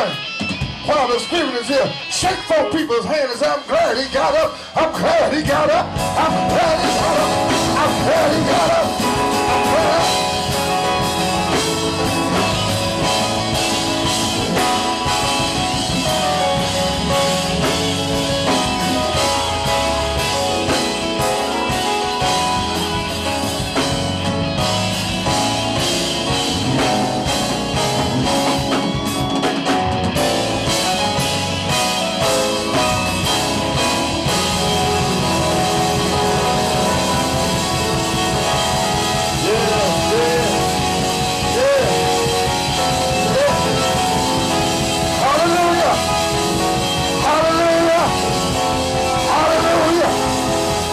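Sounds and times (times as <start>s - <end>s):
drum kit beat: 0.0s - 50.9s
electric guitar: 0.0s - 50.9s.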